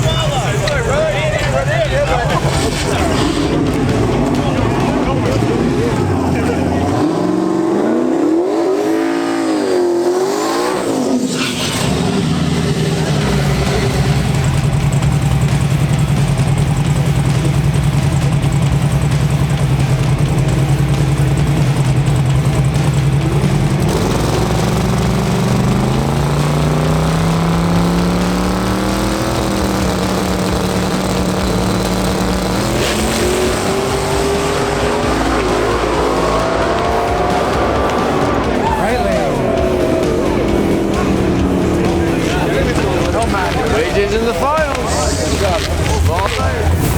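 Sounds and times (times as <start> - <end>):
racing car engine revving: 0.0 - 46.9.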